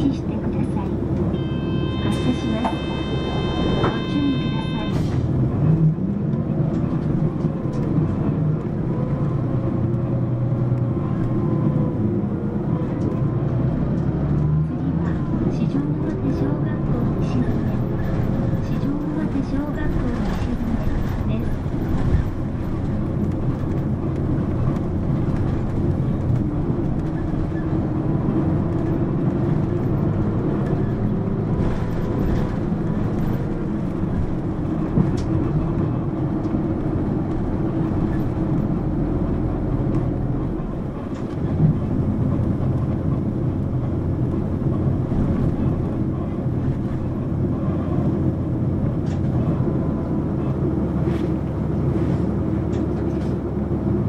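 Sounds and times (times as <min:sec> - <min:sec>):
bus diesel engine drone: 0:00.0 - 0:54.0
road noise: 0:00.0 - 0:54.0.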